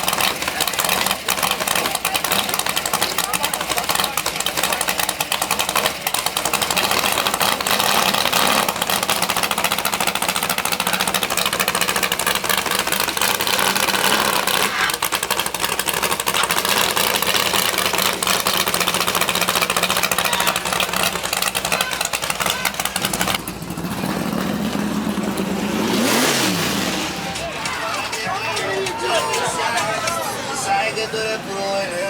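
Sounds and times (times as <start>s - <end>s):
car engine running loudly: 0.0s - 32.0s.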